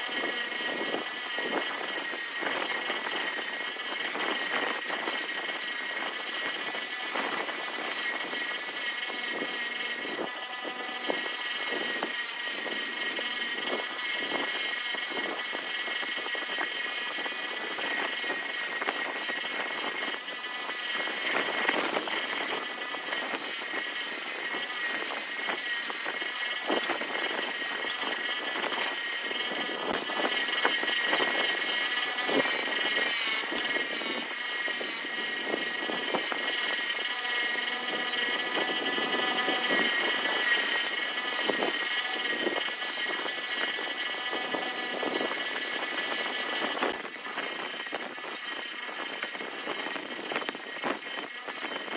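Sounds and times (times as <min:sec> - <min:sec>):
motor with high whine: 0:00.0 - 0:51.9.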